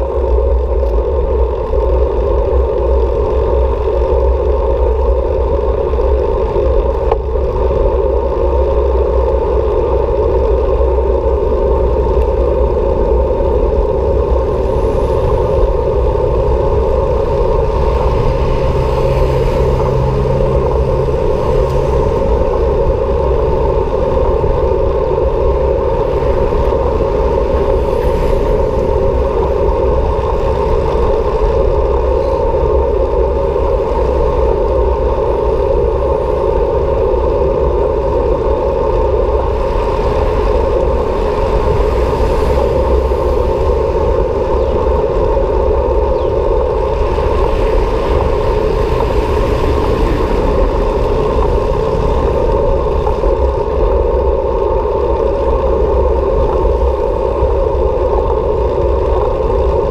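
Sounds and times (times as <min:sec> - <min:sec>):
low rumble: 0:00.0 - 0:59.9
road noise: 0:00.0 - 0:59.9
wind rushing: 0:11.8 - 0:59.9.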